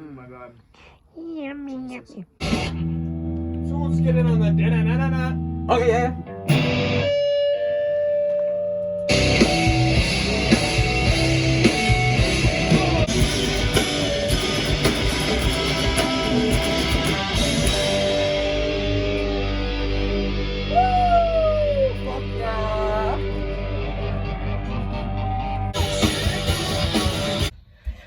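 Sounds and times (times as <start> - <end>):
rock music with guitar: 2.4 - 27.5.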